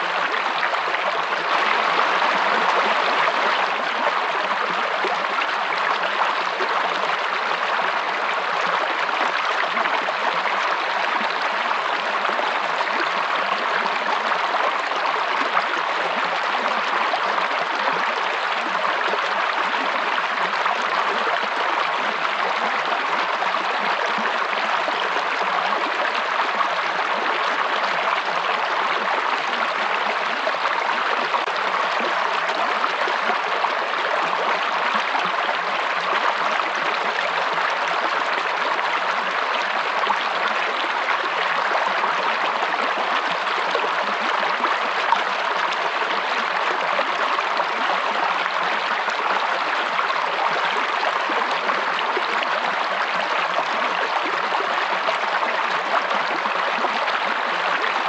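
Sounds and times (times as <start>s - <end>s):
stream water rushing and babbling: 0.0s - 58.0s.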